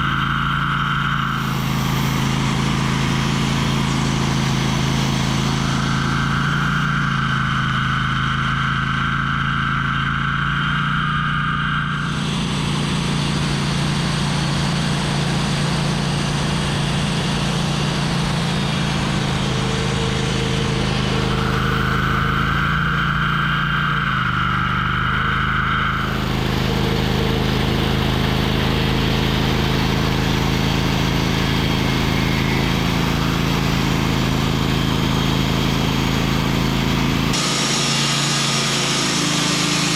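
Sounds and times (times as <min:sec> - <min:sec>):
high steady whine: 0:00.0 - 0:39.9
saw cutting through log: 0:00.0 - 0:39.9
sawmill engine running: 0:00.0 - 0:39.9.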